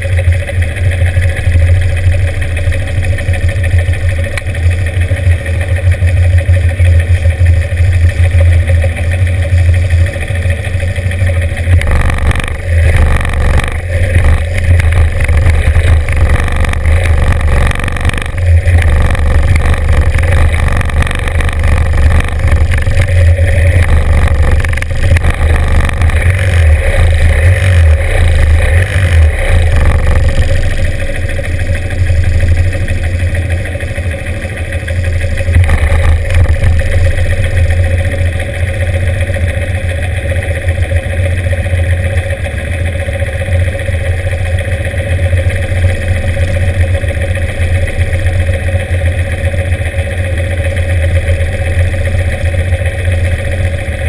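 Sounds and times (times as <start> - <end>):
motorcycle engine idling: 0.0 - 54.0
other motorcycle engines running: 0.0 - 54.0.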